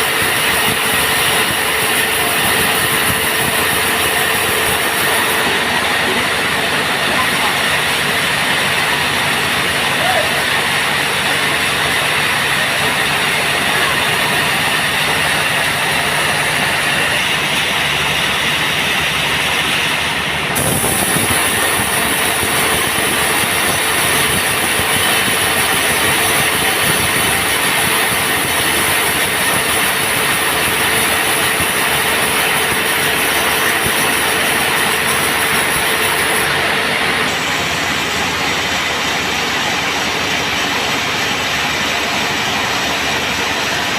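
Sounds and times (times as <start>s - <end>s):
band saw cutting timber: 0.0s - 43.9s.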